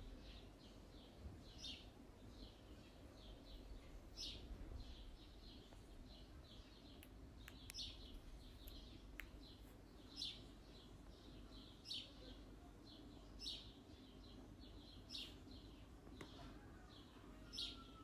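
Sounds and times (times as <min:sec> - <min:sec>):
faint bird chirping: 0:00.0 - 0:18.0
low background hum: 0:00.0 - 0:18.0.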